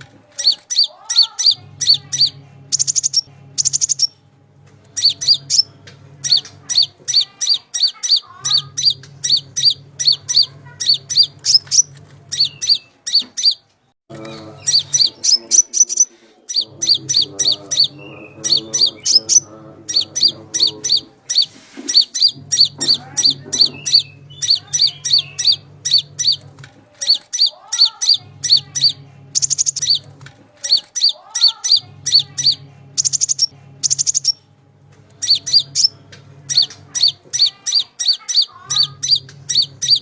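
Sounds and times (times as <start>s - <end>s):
low hum: 0.0s - 40.0s
bird chirping rapidly: 0.4s - 4.2s, 4.9s - 13.6s, 14.4s - 26.4s, 27.0s - 34.5s, 35.1s - 40.0s.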